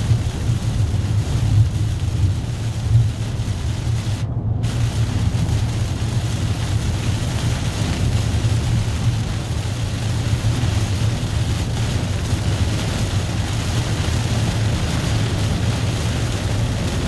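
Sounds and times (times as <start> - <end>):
car engine and tyres rumbling: 0.0 - 17.0
continuous hiss: 0.0 - 17.0.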